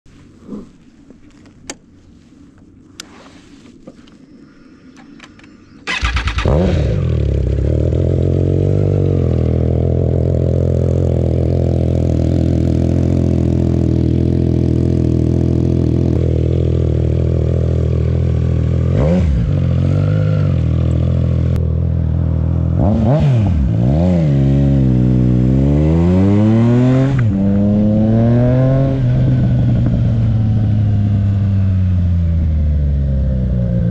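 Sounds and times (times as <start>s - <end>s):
motorcycle engine starting: 5.0s - 33.9s
motorcycle engine revving: 5.8s - 33.9s.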